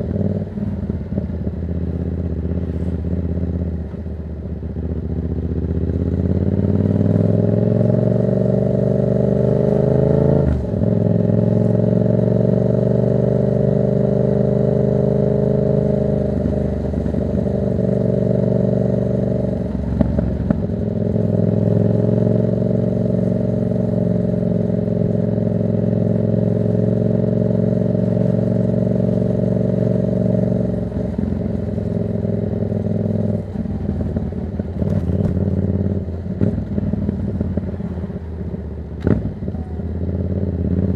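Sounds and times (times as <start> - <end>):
motorcycle engine under load: 0.0 - 40.9.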